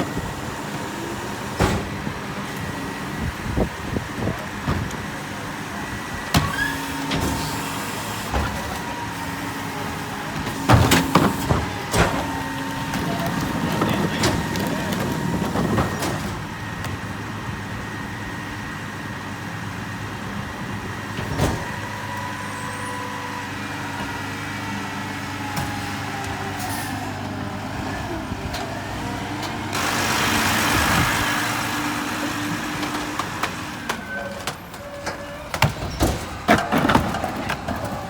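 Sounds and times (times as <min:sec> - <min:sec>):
garbage truck running: 0:00.0 - 0:38.0.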